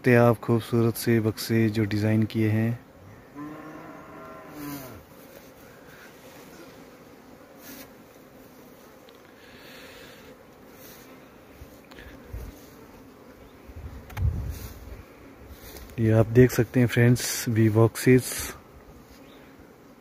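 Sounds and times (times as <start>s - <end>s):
honey bees humming: 0.0s - 20.0s.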